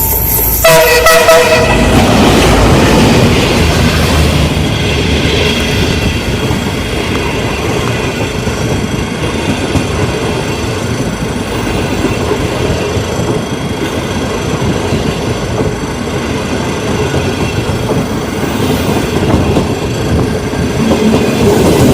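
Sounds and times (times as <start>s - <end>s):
train wheels rumbling on track: 0.0s - 21.9s.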